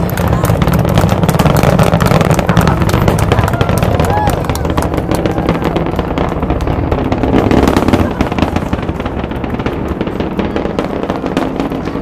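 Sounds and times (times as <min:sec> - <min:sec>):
rocket launch roar with crackling: 0:00.0 - 0:12.0.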